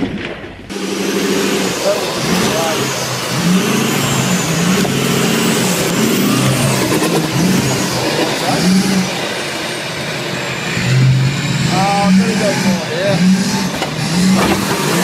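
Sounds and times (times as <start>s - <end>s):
engine revving hard under load: 0.7s - 15.0s.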